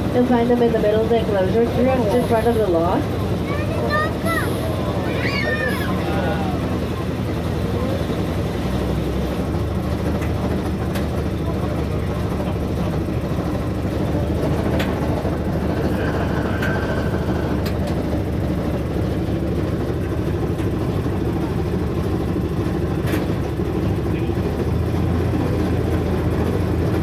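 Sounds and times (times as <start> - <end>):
train engine hum and rumble: 0.0 - 27.0.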